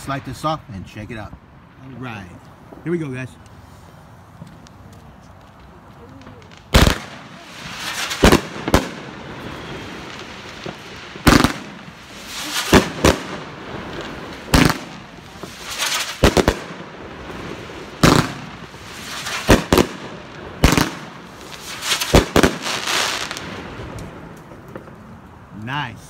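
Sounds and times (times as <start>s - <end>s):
firework crackling hiss: 2.4s - 25.2s
firework bangs: 4.2s - 25.2s.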